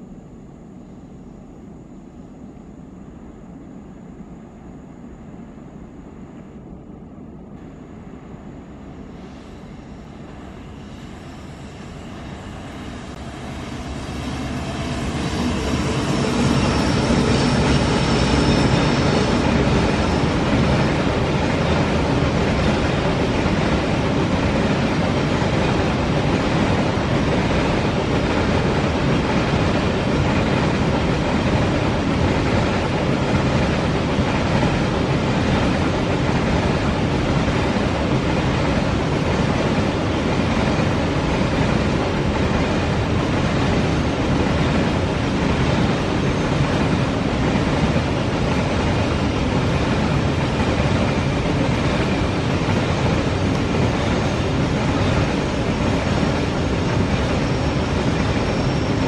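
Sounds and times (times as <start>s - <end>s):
train wheels rumbling on rails: 6.1s - 59.0s.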